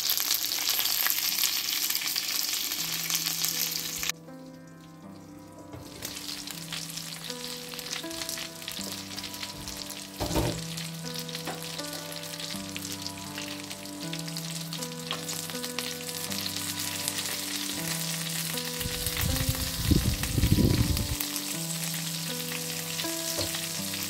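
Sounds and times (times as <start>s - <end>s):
skewers sizzling in hot oil: 0.0s - 4.1s, 4.8s - 24.0s
soft background music: 0.1s - 24.0s.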